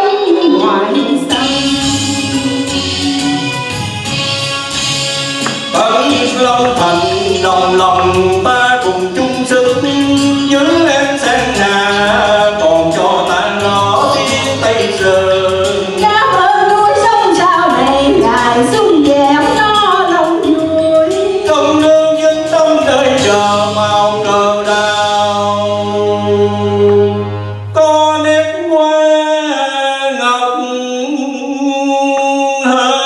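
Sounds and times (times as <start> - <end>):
man and woman singing duet: 0.0 - 3.8, 5.4 - 33.0.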